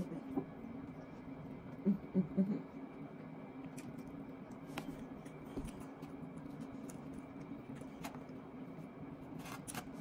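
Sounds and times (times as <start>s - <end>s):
low hum: 0.0s - 10.0s
quiet chewing: 0.2s - 9.8s.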